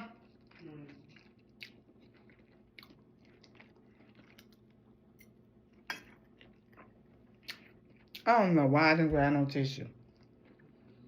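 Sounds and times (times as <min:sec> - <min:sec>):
person chewing: 0:00.0 - 0:08.3, 0:10.0 - 0:11.0.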